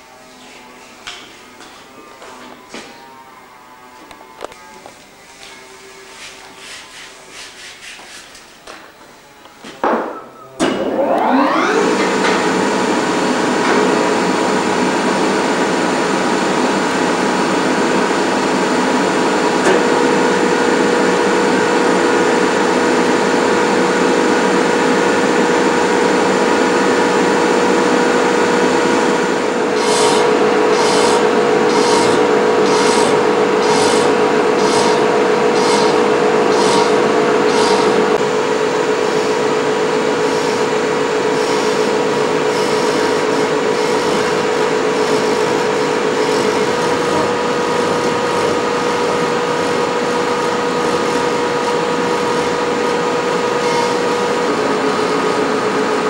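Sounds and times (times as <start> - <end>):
lathe machine whine: 10.0 - 56.0.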